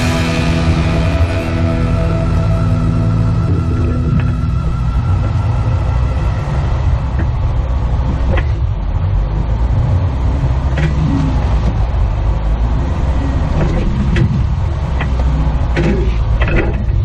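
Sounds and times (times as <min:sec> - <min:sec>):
car engine low rumble: 0:00.0 - 0:17.0.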